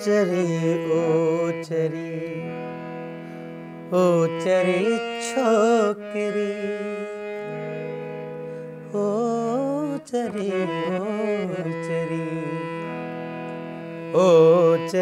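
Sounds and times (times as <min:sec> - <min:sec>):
man singing: 0:00.0 - 0:02.9, 0:03.9 - 0:13.1, 0:14.1 - 0:15.0
harmonium chords: 0:00.0 - 0:15.0.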